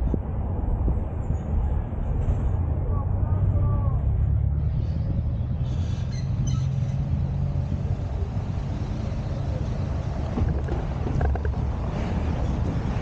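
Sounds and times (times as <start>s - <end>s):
car driving on road: 0.0s - 13.0s.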